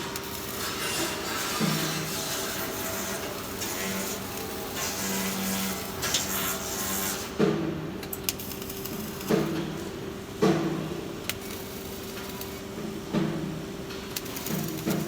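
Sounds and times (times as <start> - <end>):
welding arc crackling hiss: 0.0 - 7.3, 8.0 - 10.3, 11.0 - 15.0.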